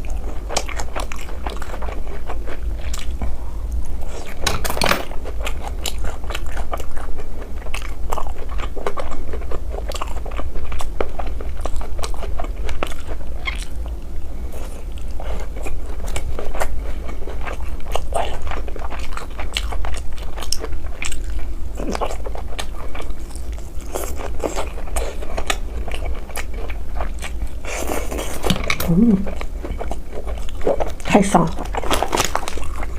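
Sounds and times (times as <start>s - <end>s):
person chewing crunchy food: 0.0s - 32.9s.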